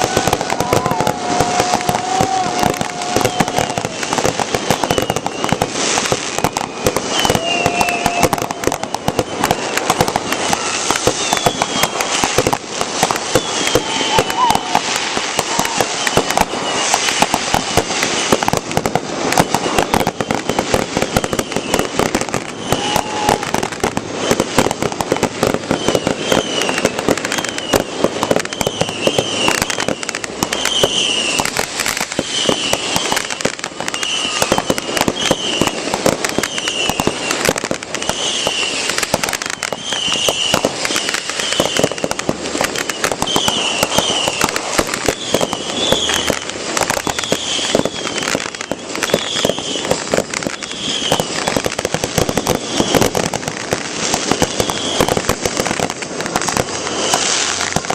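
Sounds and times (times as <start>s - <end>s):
fireworks crackling and popping: 0.0s - 57.9s.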